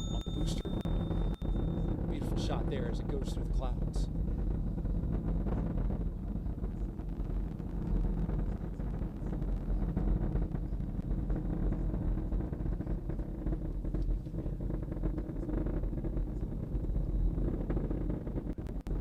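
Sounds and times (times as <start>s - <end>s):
rocket engines rumbling: 0.0s - 19.0s.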